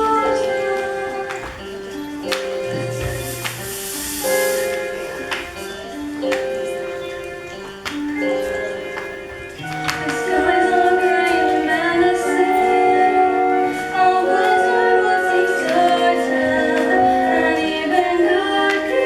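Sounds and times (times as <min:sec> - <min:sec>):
instrumental accompaniment: 0:00.0 - 0:19.0
person singing long notes: 0:00.0 - 0:19.0.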